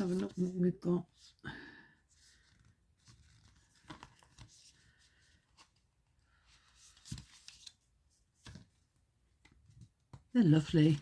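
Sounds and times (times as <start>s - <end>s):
cards rustling: 0.0s - 1.4s, 2.1s - 9.7s.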